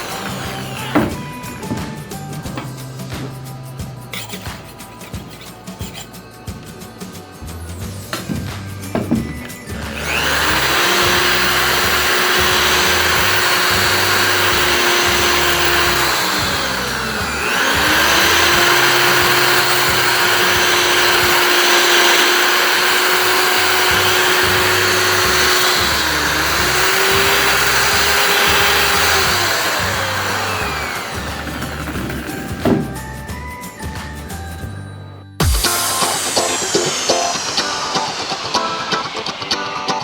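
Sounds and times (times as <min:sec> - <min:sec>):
drum sander motor whining: 0:00.0 - 0:03.3, 0:08.1 - 0:33.4, 0:35.4 - 0:40.0
background music: 0:00.0 - 0:40.0.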